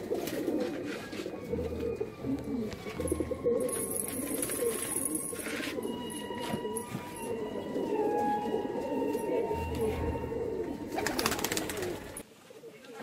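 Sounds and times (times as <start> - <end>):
pigeons cooing: 0.0 - 12.2.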